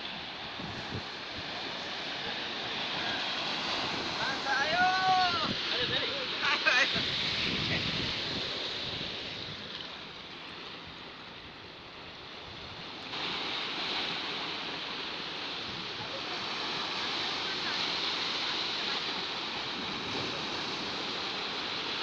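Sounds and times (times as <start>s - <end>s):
waves splashing against rocks: 0.0s - 11.1s, 12.2s - 22.0s.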